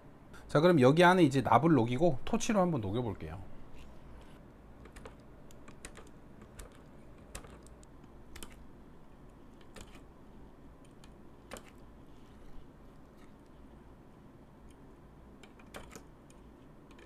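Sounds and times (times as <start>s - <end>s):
faint room noise: 0.0s - 17.0s.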